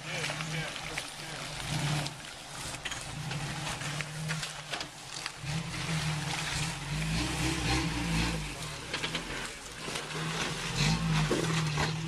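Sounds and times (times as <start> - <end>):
engine running at low revs: 0.0 - 12.0
water trickling: 0.0 - 12.0.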